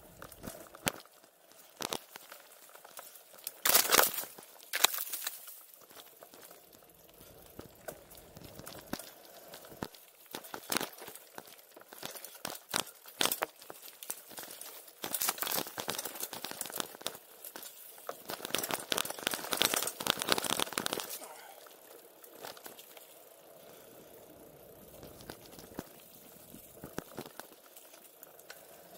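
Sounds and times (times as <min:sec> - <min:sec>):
bike tyres crunching over stones: 0:00.0 - 0:28.9.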